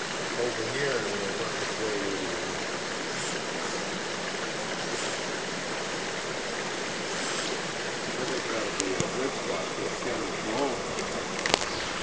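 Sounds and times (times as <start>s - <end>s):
fast-running creek water: 0.0s - 12.0s.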